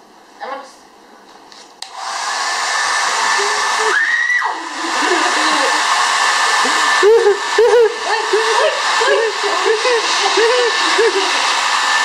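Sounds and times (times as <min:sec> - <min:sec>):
hair dryer blowing: 0:01.8 - 0:12.0.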